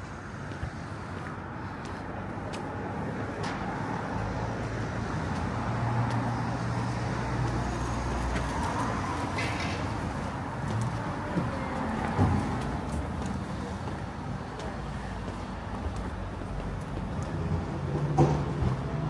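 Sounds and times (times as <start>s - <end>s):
street noise: 0.0s - 19.0s.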